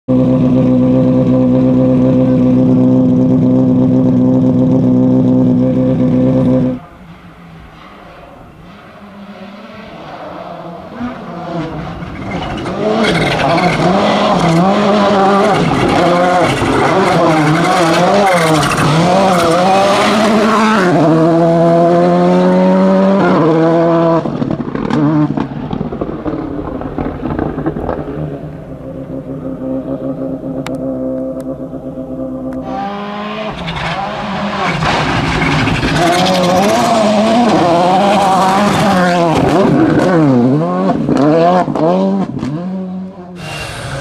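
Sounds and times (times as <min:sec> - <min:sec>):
rally car engine revving: 0:00.1 - 0:44.0.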